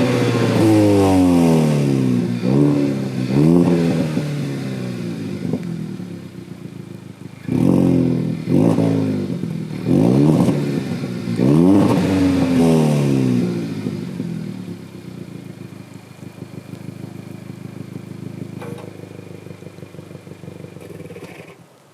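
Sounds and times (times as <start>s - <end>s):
car engine idling: 0.0s - 11.6s, 12.3s - 21.9s
car engine revving: 0.0s - 21.6s.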